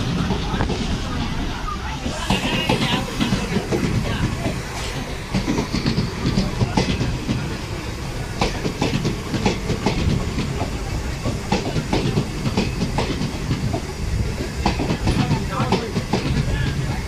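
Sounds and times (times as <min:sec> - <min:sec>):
low rumble of train: 0:00.0 - 0:17.0
train wheels clicking over rail joints: 0:00.0 - 0:17.0.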